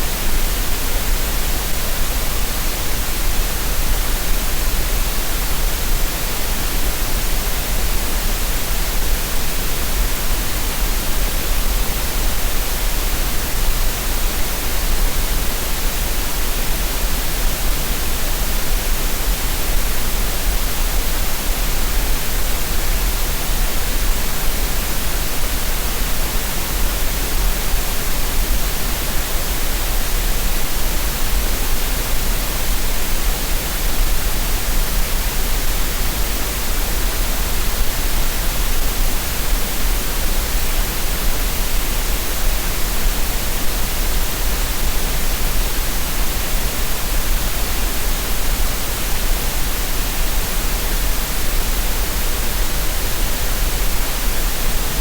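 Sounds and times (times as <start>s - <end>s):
steady green noise hiss: 0.0s - 55.0s.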